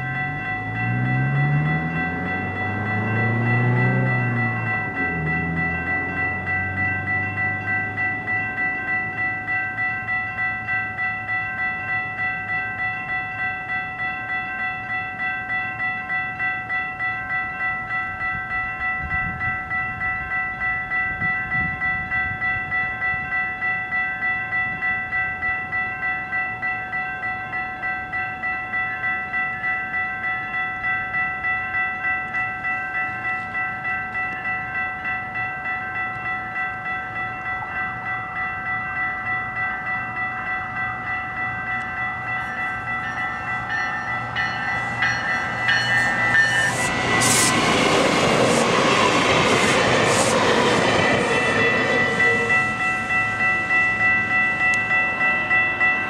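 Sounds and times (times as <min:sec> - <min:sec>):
low train rumble: 0:00.0 - 0:56.0
railway warning bell ringing: 0:00.0 - 0:56.0.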